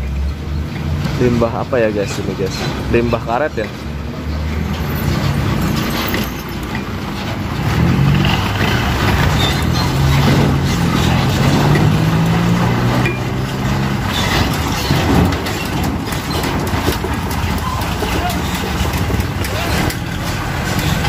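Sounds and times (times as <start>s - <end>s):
diesel truck engine passing: 0.0s - 21.0s
road noise: 0.0s - 21.0s.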